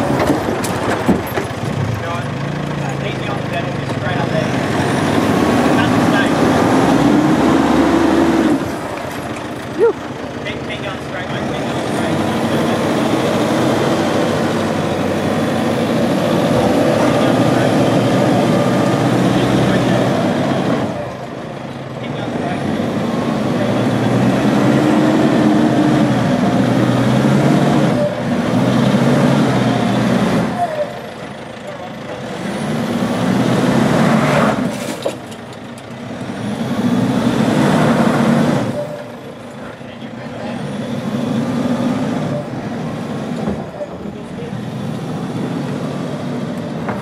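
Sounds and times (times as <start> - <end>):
truck engine under load: 0.0 - 47.0.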